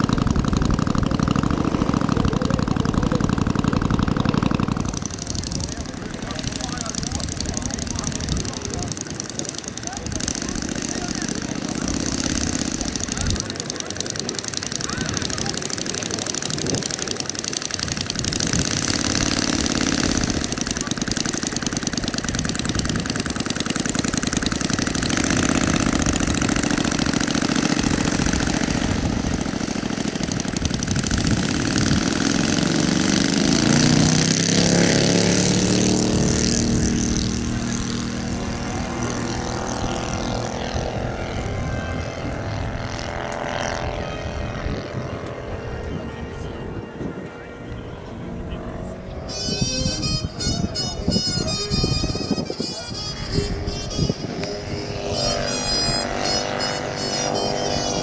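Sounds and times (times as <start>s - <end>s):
model plane engine and propeller: 0.0s - 58.0s.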